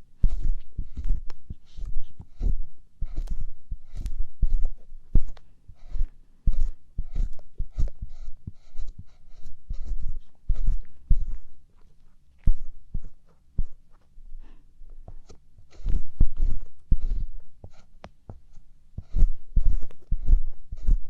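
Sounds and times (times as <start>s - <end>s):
ear pick scraping microphone: 0.0s - 13.9s, 15.1s - 21.0s.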